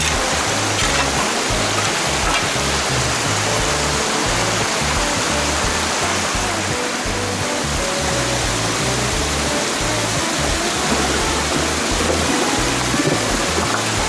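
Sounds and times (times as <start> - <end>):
background music with bass: 0.0 - 14.0
mountain stream water rushing: 0.0 - 14.0.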